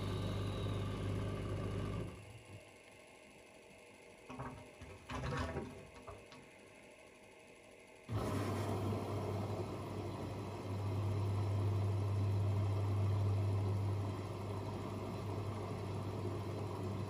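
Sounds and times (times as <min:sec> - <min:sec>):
drain pump running with hum: 0:00.0 - 0:03.0, 0:04.1 - 0:06.8, 0:08.0 - 0:17.0.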